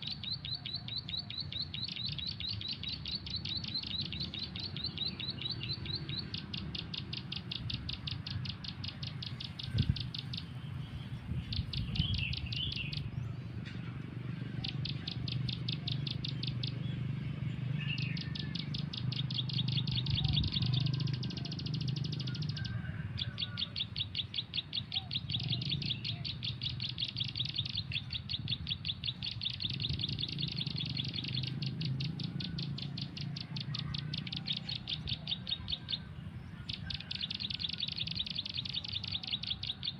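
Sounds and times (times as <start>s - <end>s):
rapid high bird chirping from phone: 0.0s - 39.9s
soft bird chirps: 0.0s - 39.9s.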